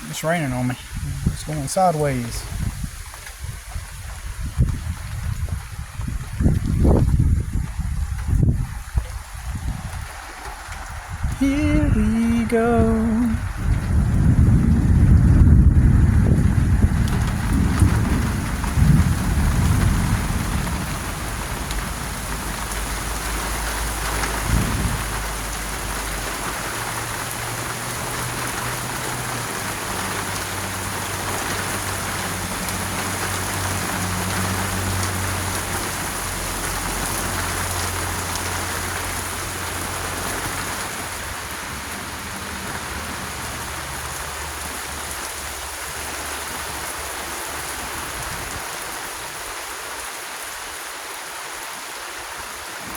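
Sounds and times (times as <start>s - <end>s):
heavy rain falling: 0.0s - 52.9s
wind rumbling on microphone: 0.7s - 50.9s.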